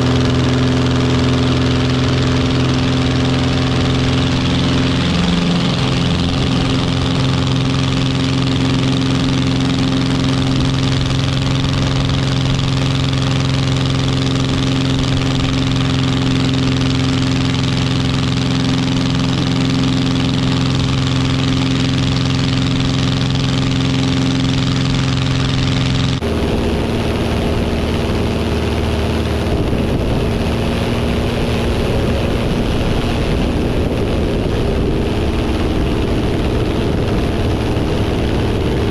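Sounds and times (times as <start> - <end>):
light aircraft engine and propeller: 0.0 - 38.9.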